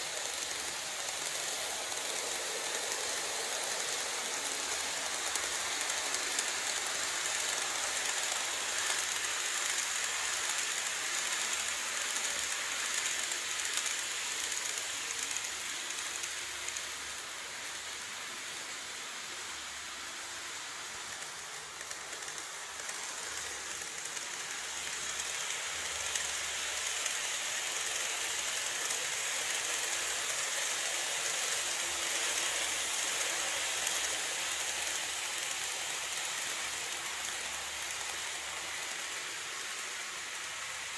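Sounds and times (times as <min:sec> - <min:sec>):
model trains wheels hissing: 0:00.0 - 0:40.9.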